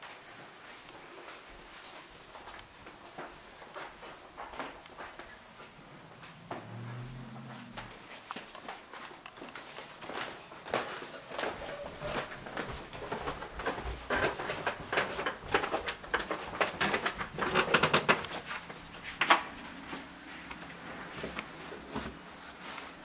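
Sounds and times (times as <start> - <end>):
footsteps on wooden stairs: 0.7 - 22.2.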